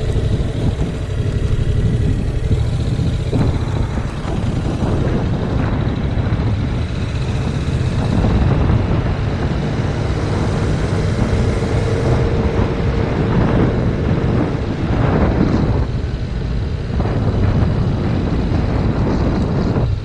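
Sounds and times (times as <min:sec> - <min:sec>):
faint motorcycle engine: 0:00.0 - 0:20.0
wind buffeting microphone: 0:00.0 - 0:20.0.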